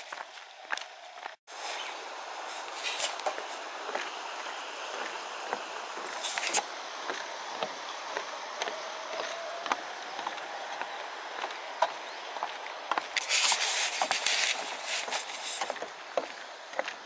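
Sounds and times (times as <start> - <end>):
footsteps crunching on gravel: 0.0 - 1.9, 2.5 - 17.0.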